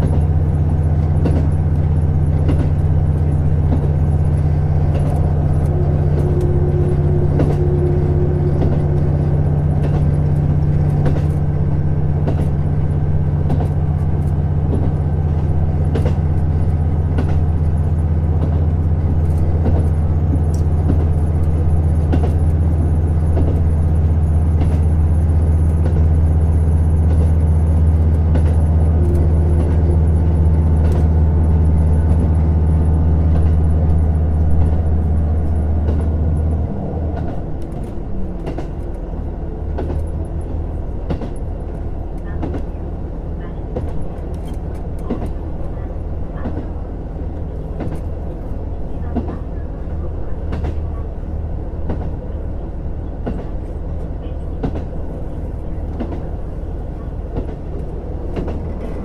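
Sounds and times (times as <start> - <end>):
diesel engine drone: 0.0 - 59.0
wheel-on-rail rumble: 0.0 - 59.0.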